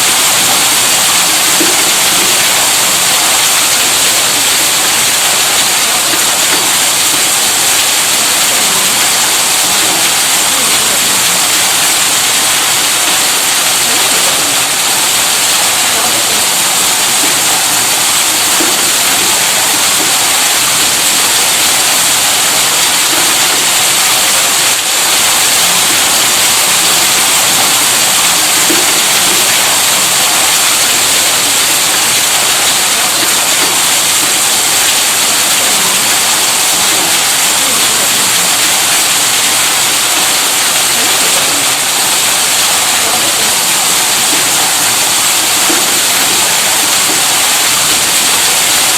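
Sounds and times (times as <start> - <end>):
pump motor rushing hiss: 0.0 - 48.9.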